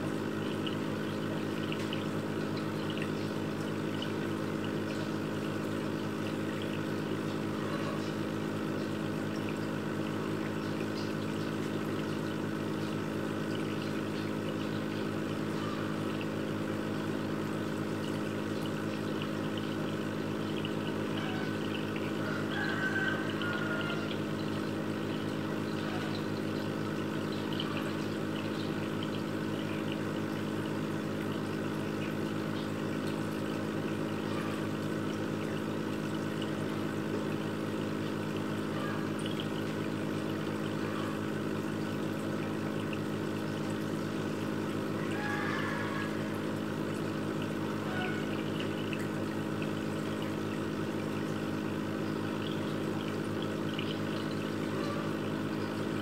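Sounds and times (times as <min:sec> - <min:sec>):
aquarium pump humming: 0:00.0 - 0:56.0
water trickling: 0:00.0 - 0:56.0.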